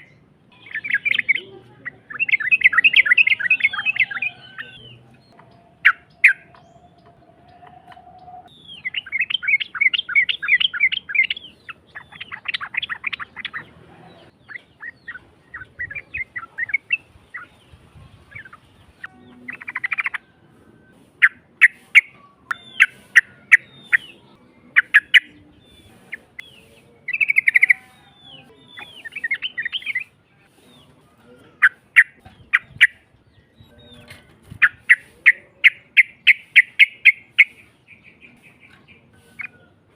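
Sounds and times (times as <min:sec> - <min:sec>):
bird chattering and trilling: 0:00.0 - 0:20.4, 0:21.1 - 0:30.9, 0:31.5 - 0:39.9.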